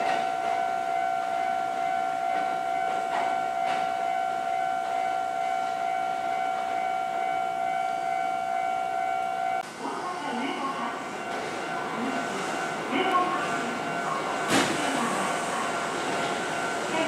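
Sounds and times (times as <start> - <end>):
electric train moving slowly: 0.0 - 17.0.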